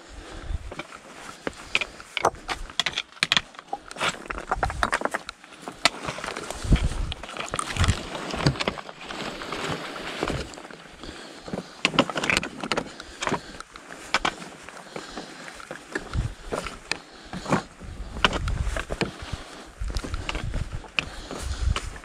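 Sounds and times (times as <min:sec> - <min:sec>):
trekking poles clicking on stones: 0:00.2 - 0:22.0
footsteps crunching on loose rock: 0:00.5 - 0:22.0.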